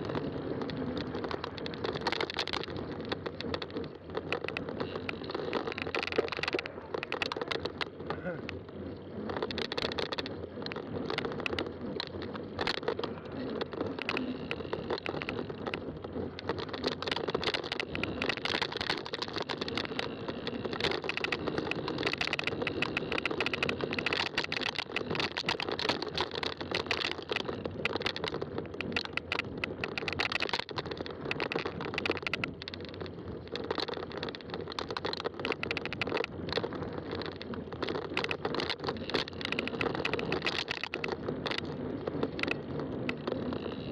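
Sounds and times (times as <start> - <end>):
bike tyres rolling on trail: 0.0 - 43.9.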